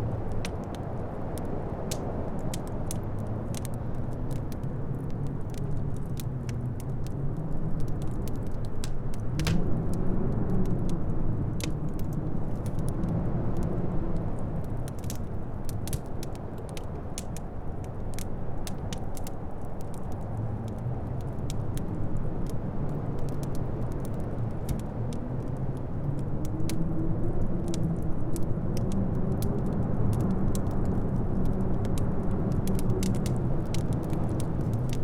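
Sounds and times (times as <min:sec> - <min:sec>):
howling wind: 0:00.0 - 0:35.0
loud fire crack: 0:00.0 - 0:35.0
wood fire crackling: 0:00.0 - 0:35.0.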